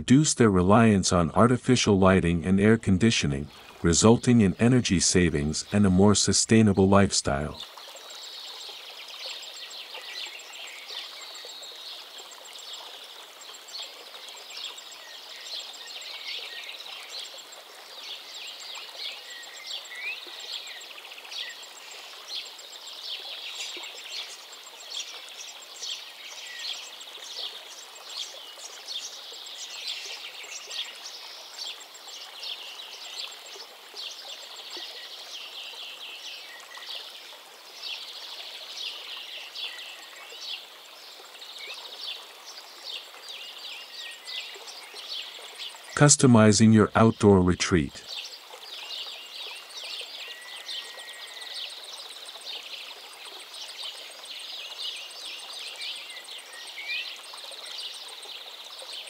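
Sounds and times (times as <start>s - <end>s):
soft steady hiss: 0.0s - 59.0s.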